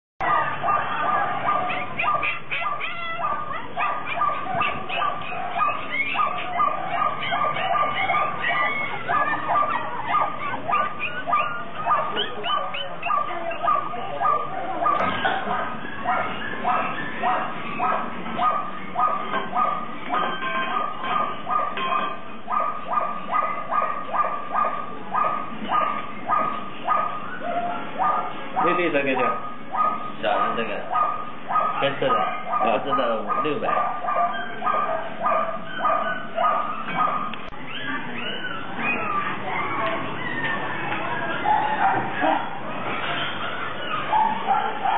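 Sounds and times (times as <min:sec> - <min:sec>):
puppies whimpering and yipping: 0:00.2 - 0:44.9.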